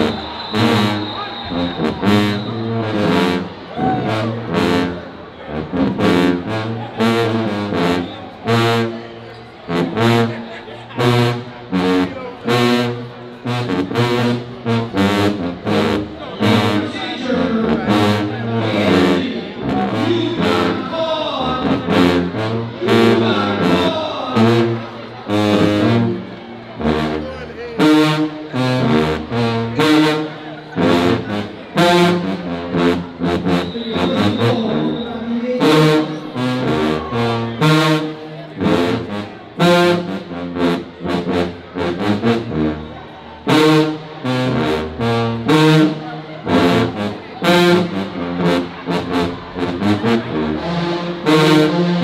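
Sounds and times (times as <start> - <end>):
brass band fanfare: 0.0 - 52.0.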